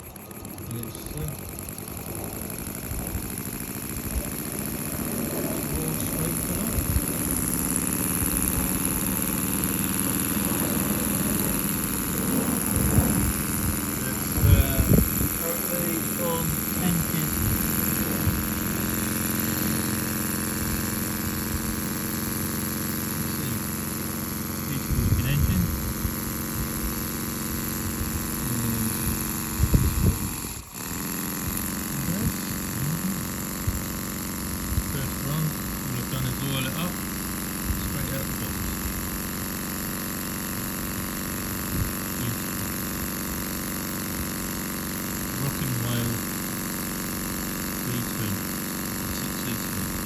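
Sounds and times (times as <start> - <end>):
model steam engine exhaust beating: 0.0 - 50.0.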